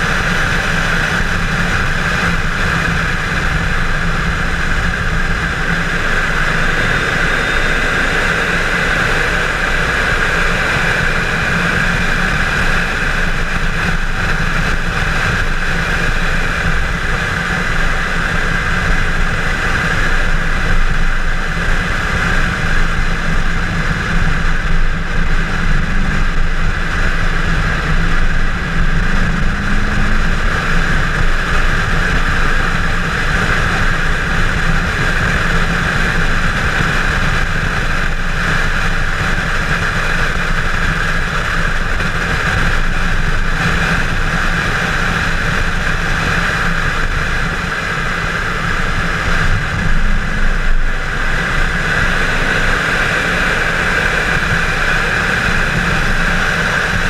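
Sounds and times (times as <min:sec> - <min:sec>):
car engine and exhaust revving: 0:00.0 - 0:57.0
wind rush: 0:00.0 - 0:57.0.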